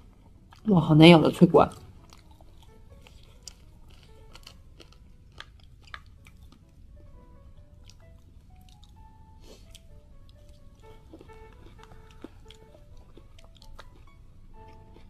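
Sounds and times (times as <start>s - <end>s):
soft background music: 0.0s - 15.0s
chewing with sharp crunches: 1.7s - 6.8s, 7.6s - 15.0s.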